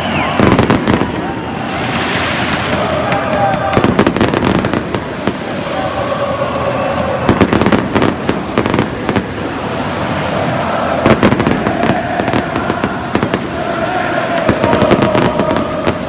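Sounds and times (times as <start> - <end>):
crowd singing and cheering: 0.0 - 16.0
fireworks cracking and popping: 0.1 - 5.6, 7.2 - 10.3, 11.0 - 16.0.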